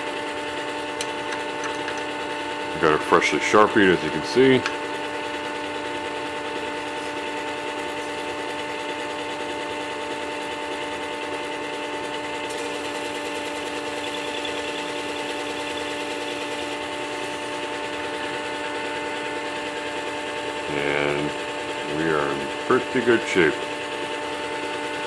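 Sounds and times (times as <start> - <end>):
sharpener motor hum: 0.0 - 25.0.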